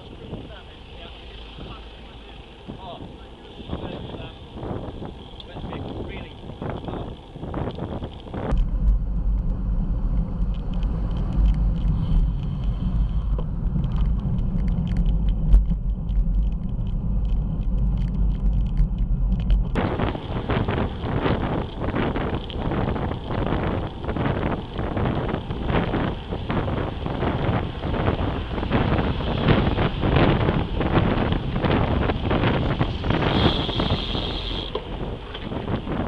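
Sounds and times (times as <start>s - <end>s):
strong low rumble: 0.0s - 36.0s
wind buffeting microphone: 2.6s - 36.0s.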